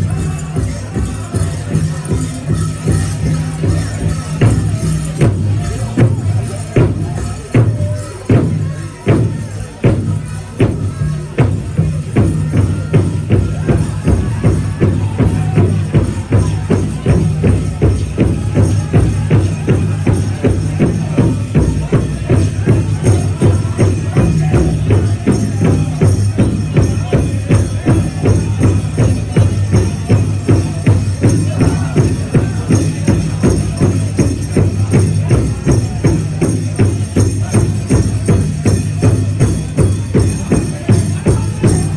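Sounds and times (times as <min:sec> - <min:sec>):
large drum beating: 0:00.0 - 0:41.9.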